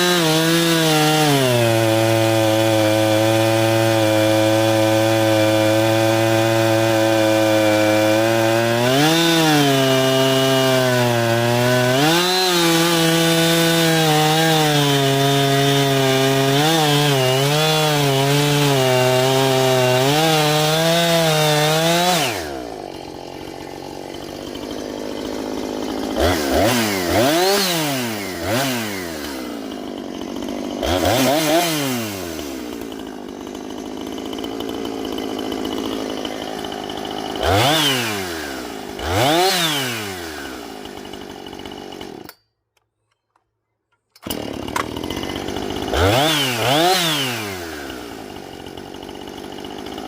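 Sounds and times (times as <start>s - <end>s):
chainsaw cutting wood: 0.0s - 42.4s, 44.1s - 50.0s.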